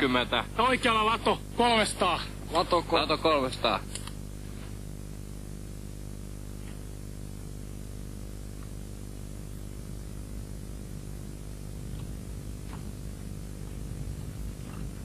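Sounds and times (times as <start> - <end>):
low electrical hum: 0.0 - 15.0
steady hiss: 0.0 - 15.0.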